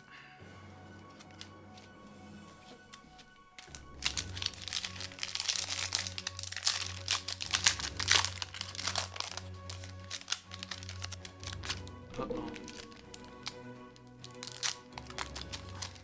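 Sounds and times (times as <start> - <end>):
background music: 0.0 - 16.0
foil wrapper crinkling: 2.7 - 16.0.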